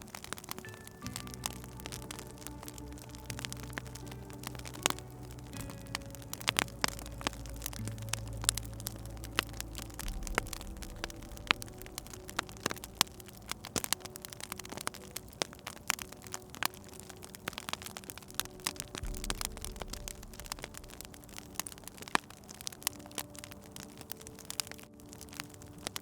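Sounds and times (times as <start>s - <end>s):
low steady hum: 0.0s - 25.0s
sharp pops and snaps: 0.0s - 26.0s
wood fire crackling: 0.0s - 26.0s.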